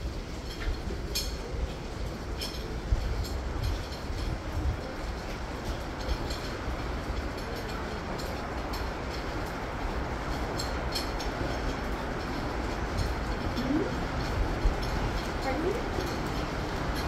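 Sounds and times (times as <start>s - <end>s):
wheelchair rolling rumble: 0.0s - 17.0s.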